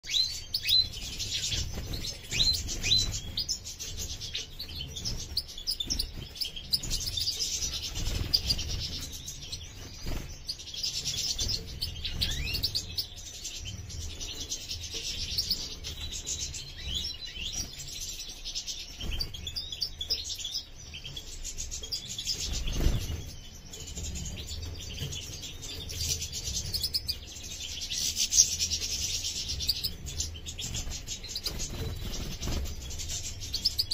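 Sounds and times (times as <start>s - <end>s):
finches chirping and twittering: 0.0s - 33.9s.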